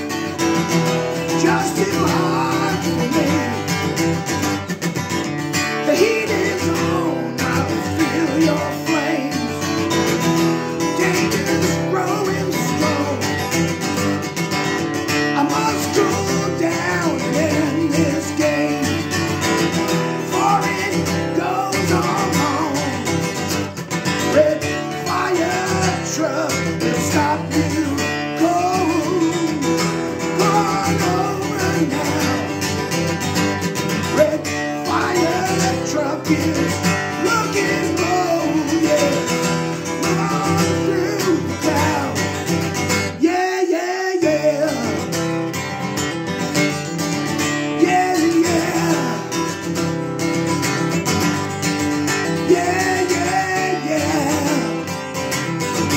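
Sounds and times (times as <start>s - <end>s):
man singing: 0.0s - 45.8s, 46.4s - 55.9s
acoustic guitar strumming: 0.0s - 55.9s.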